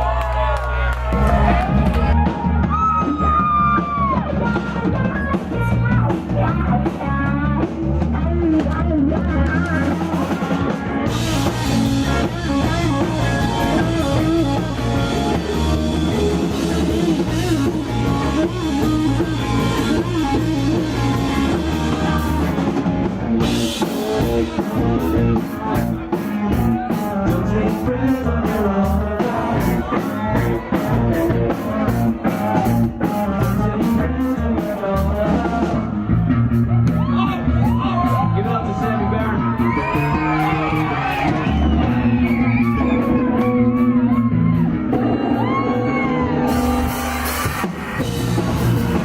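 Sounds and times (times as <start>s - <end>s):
drum kit: 0.0s - 49.0s
electric guitar: 0.0s - 49.0s
person singing: 3.0s - 47.4s.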